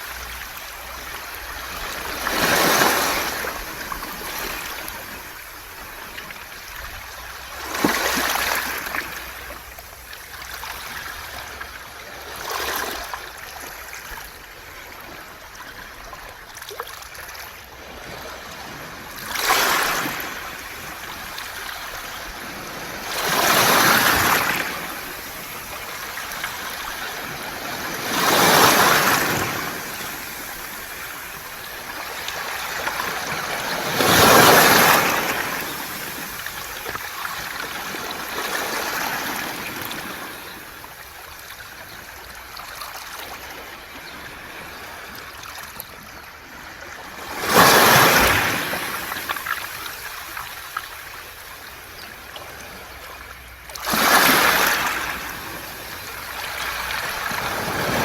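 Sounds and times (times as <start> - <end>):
waves washing over pebbles: 0.0 - 14.6, 16.6 - 45.8, 47.0 - 58.0.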